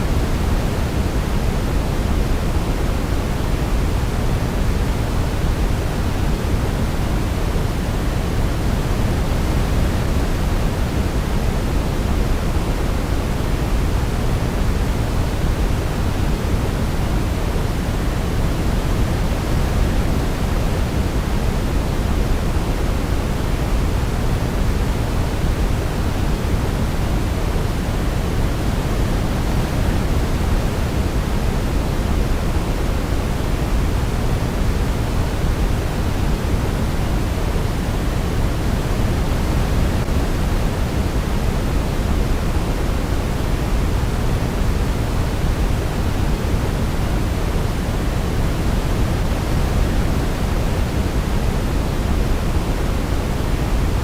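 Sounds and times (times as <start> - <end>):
pink noise hiss: 0.0 - 54.0.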